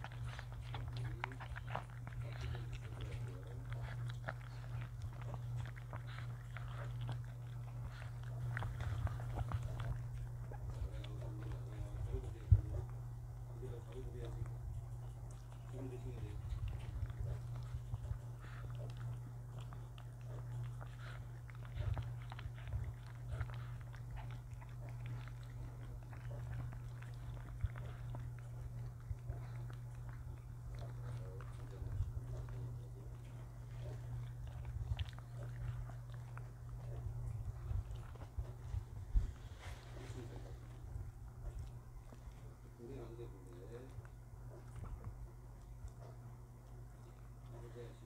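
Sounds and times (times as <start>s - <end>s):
dog crunching dry kibble: 0.0s - 48.0s
steady low hum: 0.0s - 48.0s.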